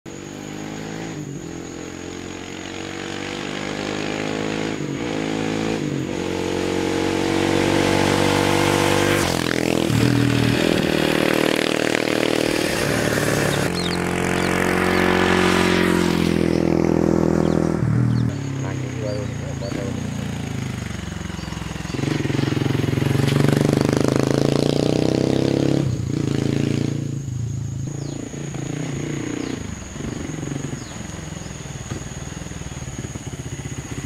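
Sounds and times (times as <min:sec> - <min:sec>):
motorcycle riding past: 0:00.1 - 0:34.0.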